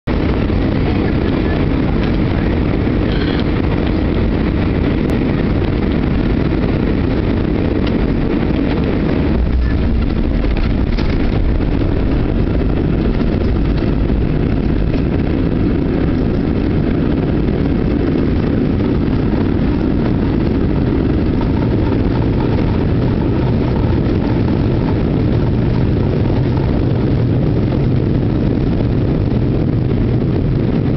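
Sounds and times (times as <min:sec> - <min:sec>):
rush of air and wheels on runway: 0:00.0 - 0:30.9
jet engines rumbling: 0:00.1 - 0:30.9.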